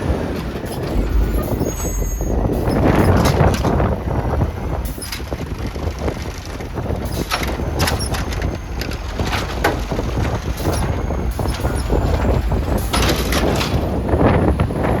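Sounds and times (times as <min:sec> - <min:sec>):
garbage truck engine rumble: 0:00.0 - 0:15.0
sharp clanks and rattles: 0:00.0 - 0:15.0
wind buffeting microphone: 0:00.0 - 0:15.0.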